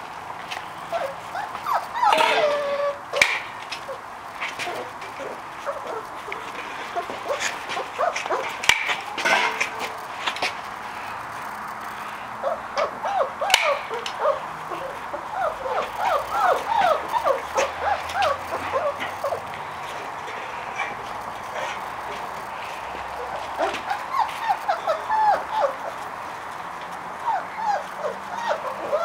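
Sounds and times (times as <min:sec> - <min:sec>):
puppies whimpering and yipping: 0:00.6 - 0:10.2, 0:10.9 - 0:29.0.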